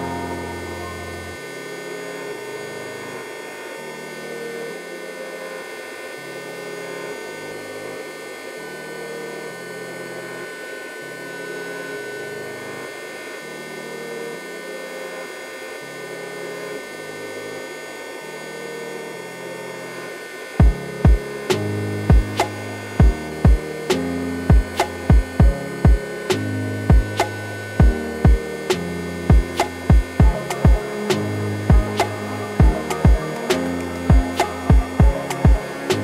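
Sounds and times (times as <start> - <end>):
background music with slow bassline: 0.0 - 36.0
steady electrical hum: 0.0 - 36.0.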